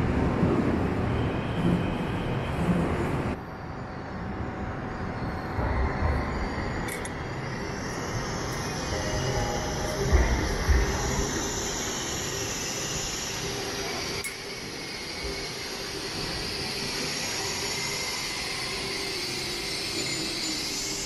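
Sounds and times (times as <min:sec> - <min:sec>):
electric train rushing noise: 0:00.0 - 0:21.0.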